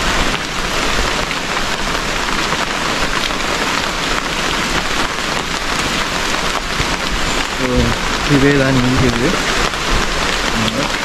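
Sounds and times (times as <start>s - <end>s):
rain on leaves: 0.0s - 11.0s
rain pattering on umbrella: 0.0s - 11.0s.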